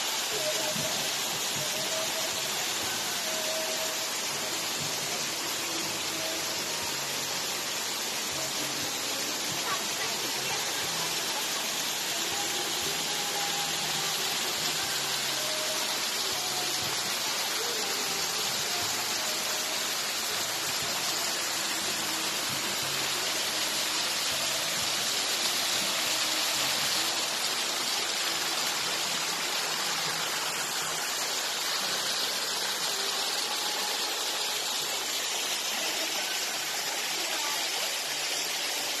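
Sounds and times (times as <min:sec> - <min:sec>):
flowing spring water: 0:00.0 - 0:39.0.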